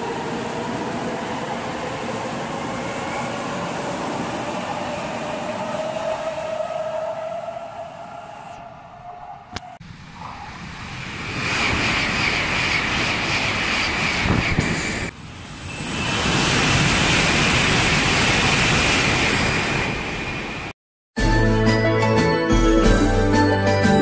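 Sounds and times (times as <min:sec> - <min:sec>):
high-speed train passing: 0:00.0 - 0:20.7.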